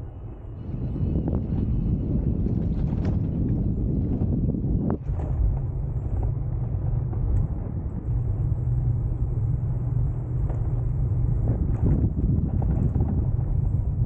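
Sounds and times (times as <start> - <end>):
bicycle riding rumble: 0.0 - 14.0
wind on microphone: 0.0 - 14.0.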